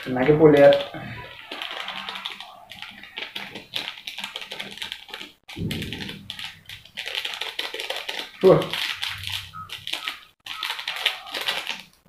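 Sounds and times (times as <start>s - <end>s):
plastic sachet crinkling: 0.0s - 12.0s.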